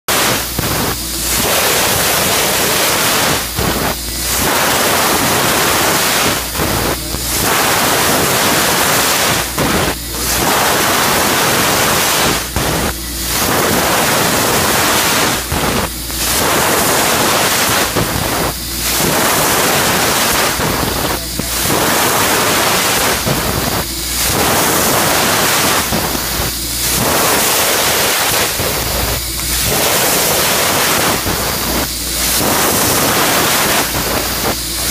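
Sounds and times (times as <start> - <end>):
laser cutter hissing: 0.1 - 34.9.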